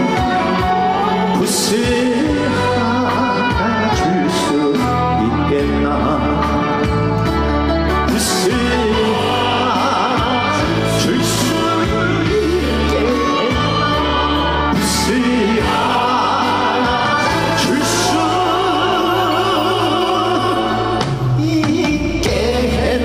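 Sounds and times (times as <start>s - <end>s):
backing band playing: 0.0s - 23.0s
man singing with vibrato: 0.0s - 23.0s.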